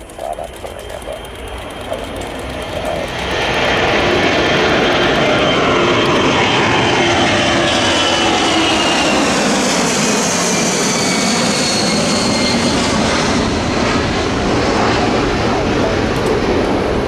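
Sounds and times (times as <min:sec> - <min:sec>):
jet aircraft passing overhead: 0:00.0 - 0:17.0.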